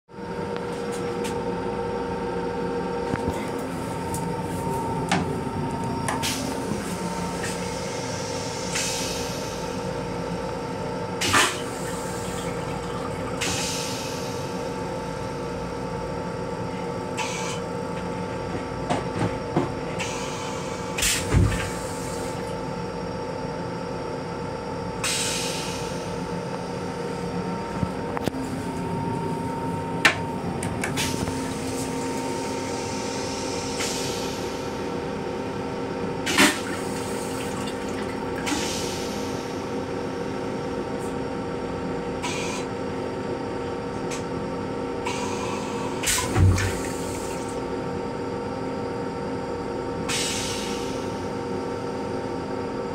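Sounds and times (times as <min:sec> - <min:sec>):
train rumble and hum: 0:00.2 - 0:23.0, 0:25.0 - 0:47.8.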